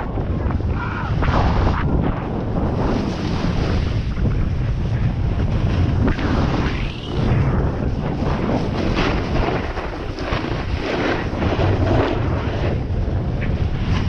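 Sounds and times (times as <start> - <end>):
snowboard sliding over snow: 0.0 - 14.0
wind rushing over microphone: 0.0 - 14.0.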